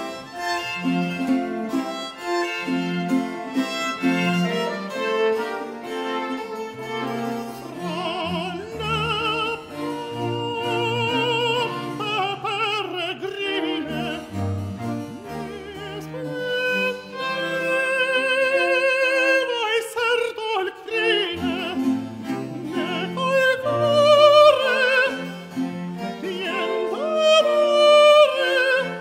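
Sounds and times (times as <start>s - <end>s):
countertenor singing with vibrato: 0.0s - 29.0s
plucked continuo: 0.0s - 29.0s
violin: 0.0s - 29.0s.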